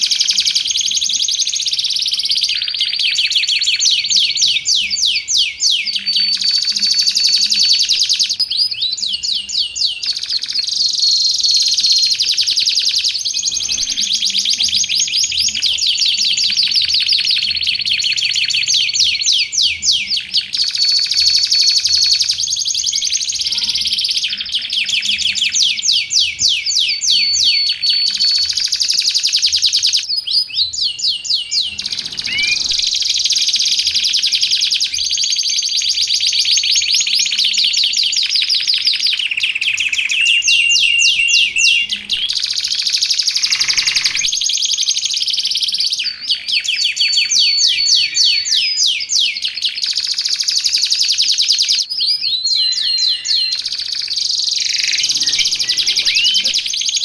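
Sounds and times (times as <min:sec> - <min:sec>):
canary held whistles: 0:00.0 - 0:57.0
canary singing trills: 0:00.0 - 0:57.0.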